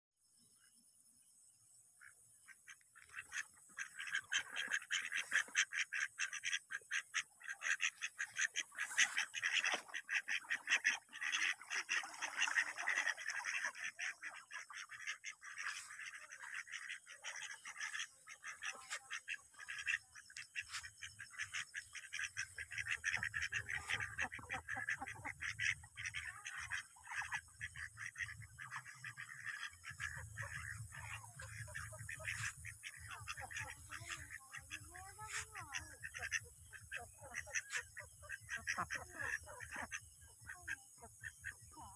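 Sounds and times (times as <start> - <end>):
ducks quacking: 2.0 - 41.9.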